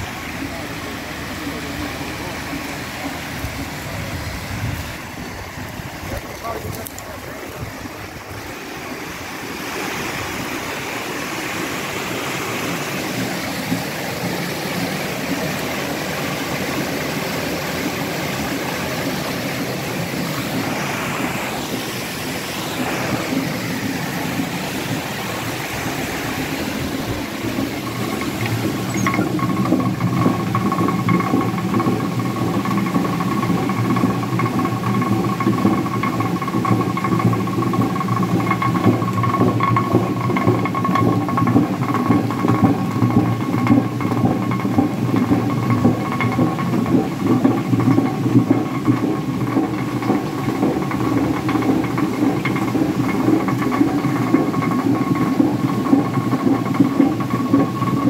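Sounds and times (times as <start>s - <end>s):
millstone rumbling hum: 0.0s - 58.0s
steady pitched tones: 0.0s - 58.0s
water rushing along channel: 0.0s - 58.0s.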